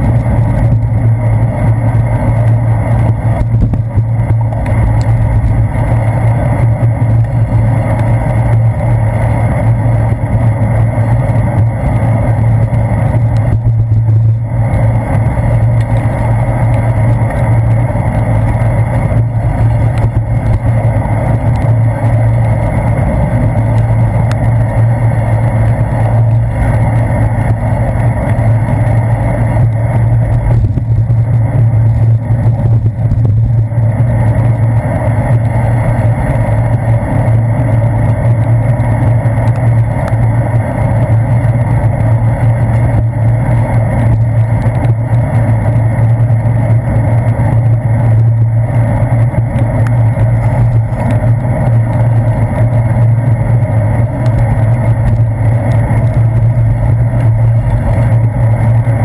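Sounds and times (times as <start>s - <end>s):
constant low hum: 0.0s - 59.0s
muffled bicycle ride vibration: 0.0s - 59.0s
traffic: 0.0s - 59.0s.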